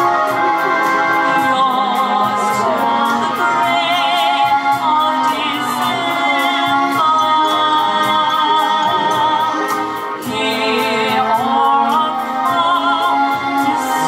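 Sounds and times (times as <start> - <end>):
instrumental accompaniment: 0.0 - 14.0
woman singing with vibrato: 0.0 - 14.0.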